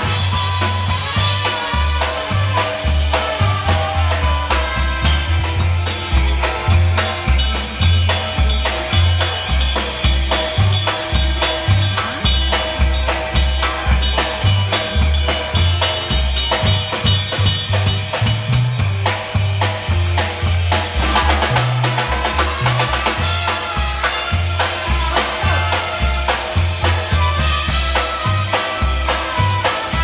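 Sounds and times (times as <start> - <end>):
bass drum and snare: 0.0 - 30.0
bass line: 0.0 - 30.0
polka band playing: 0.0 - 30.0.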